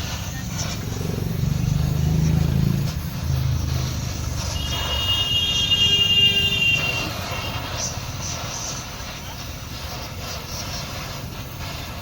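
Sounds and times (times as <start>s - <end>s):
high steady whine: 0.0s - 12.0s
vehicle engine rumbling: 0.0s - 12.0s.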